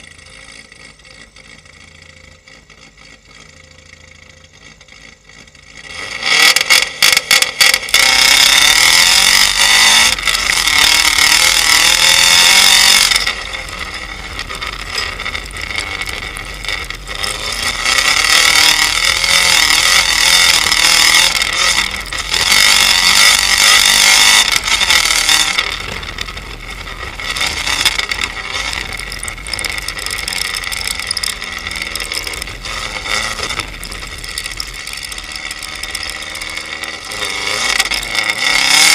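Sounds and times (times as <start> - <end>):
car engine at full throttle: 0.0 - 38.9
sharp exhaust cracks: 0.0 - 38.9.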